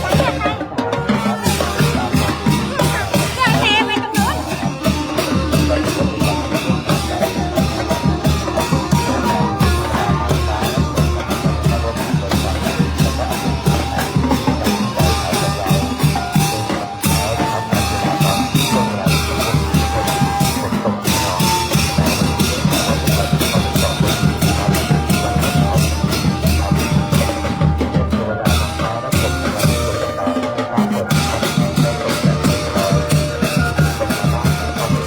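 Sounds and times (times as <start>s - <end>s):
brass band playing procession music: 0.0s - 35.0s
drum kit and bass drum beat: 0.0s - 35.0s
horns holding melody notes: 0.0s - 35.0s.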